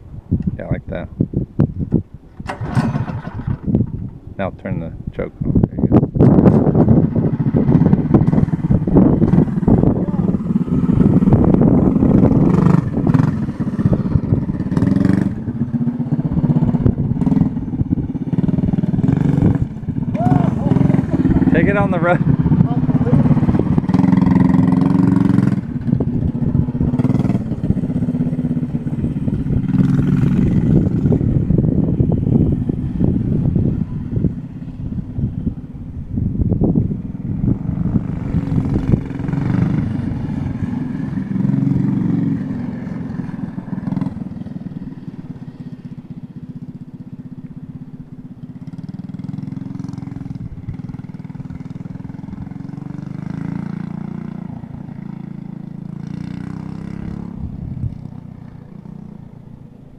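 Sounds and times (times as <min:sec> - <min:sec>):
minibike engine revving: 0:02.4 - 0:04.1, 0:06.2 - 0:35.9, 0:36.5 - 0:59.5.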